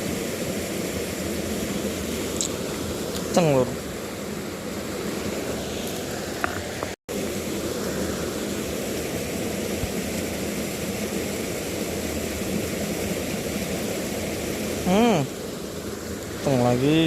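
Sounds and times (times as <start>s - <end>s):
stream flowing over rocks: 0.0s - 17.0s.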